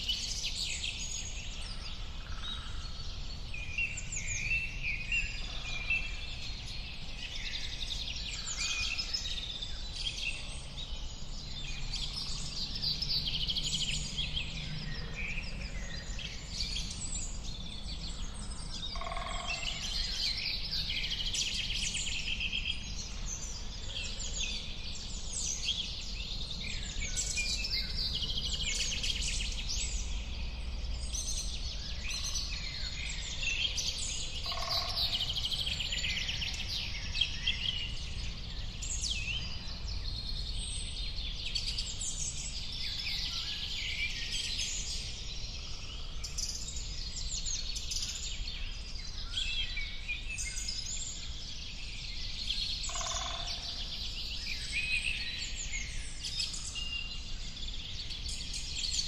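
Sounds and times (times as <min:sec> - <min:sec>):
many small birds chirping: 0:00.0 - 0:59.0.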